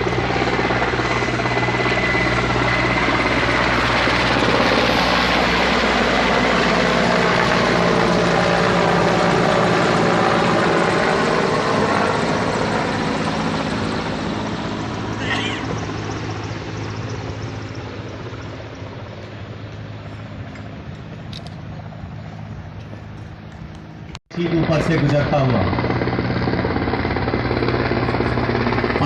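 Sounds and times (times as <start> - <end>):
helicopter flying overhead: 0.0 - 29.0.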